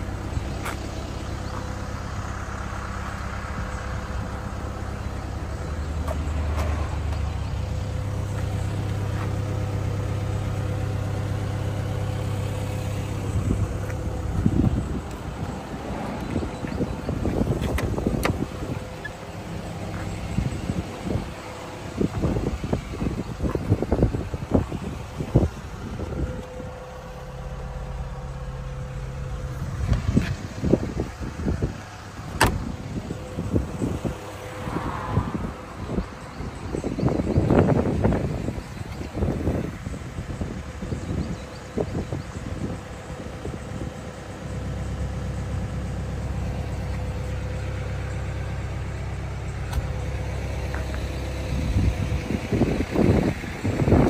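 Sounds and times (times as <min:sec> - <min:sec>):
diesel engine idling: 0:00.0 - 0:54.0
low cab hum: 0:00.0 - 0:54.0.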